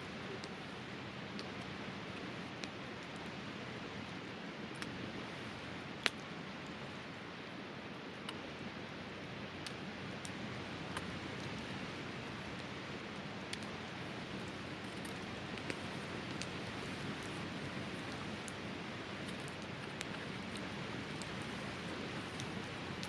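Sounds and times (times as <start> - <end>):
campfire crackling and popping: 0.1 - 7.1, 8.1 - 23.0.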